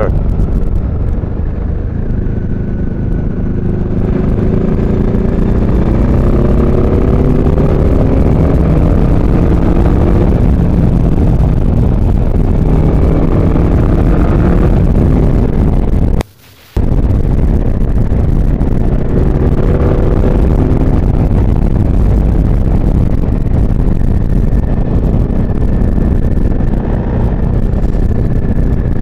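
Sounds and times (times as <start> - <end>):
motorcycle engine revving: 0.0 - 16.2, 16.8 - 29.0.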